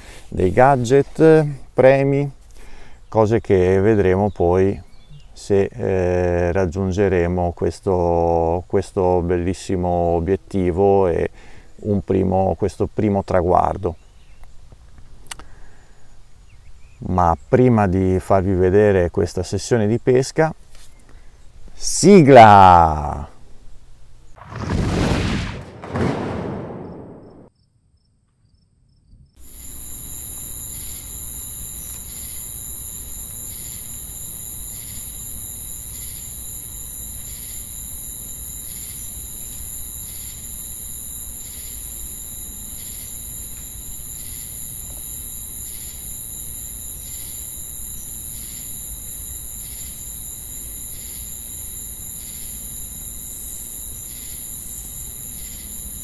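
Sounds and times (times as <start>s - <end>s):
insects chirring: 0.0s - 25.4s, 26.7s - 56.0s.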